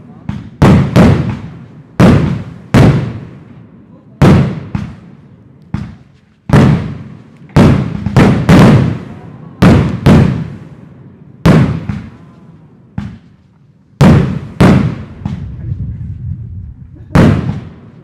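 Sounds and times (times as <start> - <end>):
fireworks bangs with echo: 0.0 - 13.4, 14.0 - 16.0, 17.0 - 18.0.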